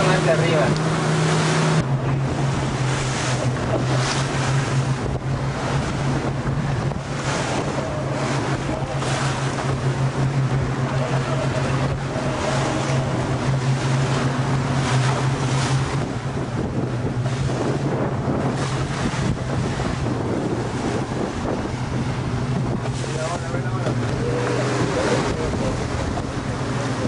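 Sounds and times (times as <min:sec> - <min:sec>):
boat engine droning: 0:00.0 - 0:27.0
waves washing against hull: 0:00.0 - 0:27.0
wind buffeting microphone: 0:00.0 - 0:27.0.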